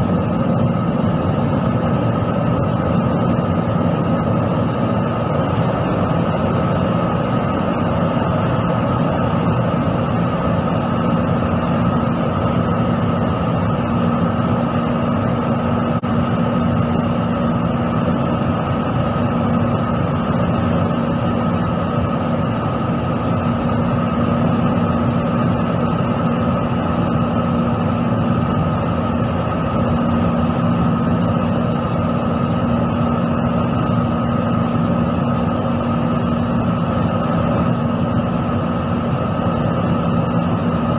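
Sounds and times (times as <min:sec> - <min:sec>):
constant low hum: 0:00.0 - 0:40.9
high steady whine: 0:00.0 - 0:40.9
jet engines drone: 0:00.0 - 0:40.9.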